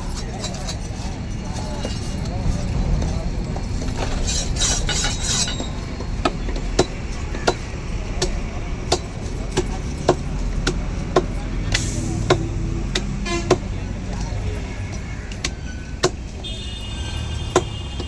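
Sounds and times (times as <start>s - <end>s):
market noise: 0.0s - 18.0s
traffic: 0.0s - 18.0s.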